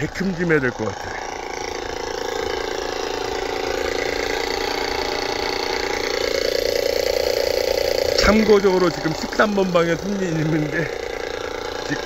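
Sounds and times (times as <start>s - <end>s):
air pump running: 0.0s - 12.0s.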